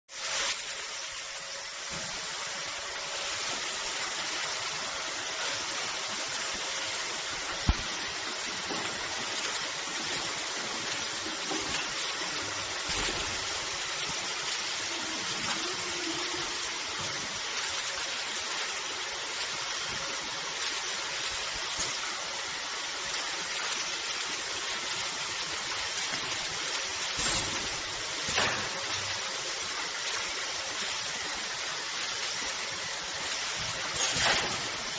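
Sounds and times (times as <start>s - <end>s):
water jets hissing: 0.1s - 34.9s.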